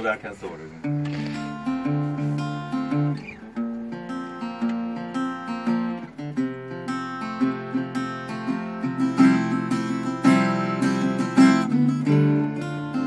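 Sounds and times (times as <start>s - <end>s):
acoustic guitars playing: 0.0s - 13.0s.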